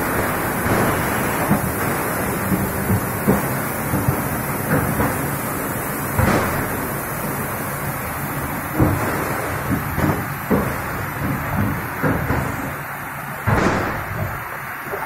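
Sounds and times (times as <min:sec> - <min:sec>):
machine clunks: 0:00.0 - 0:14.5
injection machine running: 0:00.0 - 0:15.0.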